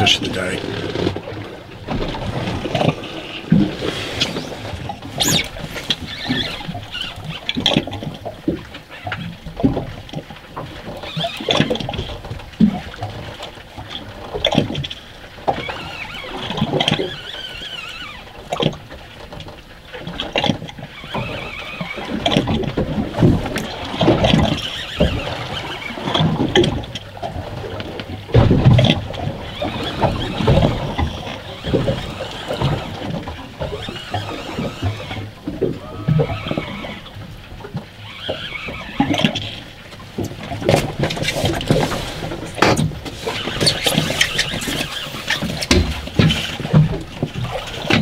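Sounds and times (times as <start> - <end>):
water lapping against boat hull: 0.0 - 48.0.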